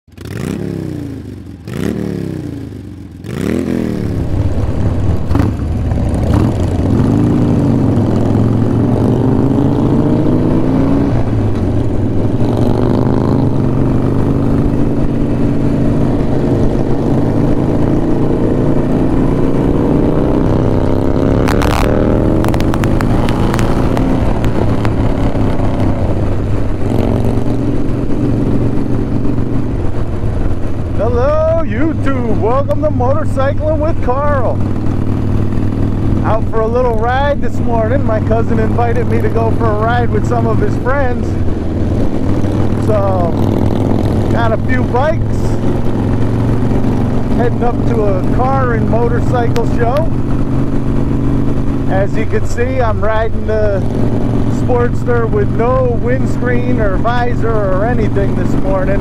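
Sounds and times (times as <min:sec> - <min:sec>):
motorcycle riding at road speed: 0:00.0 - 0:59.0
motorcycle engine revving: 0:00.1 - 0:59.0.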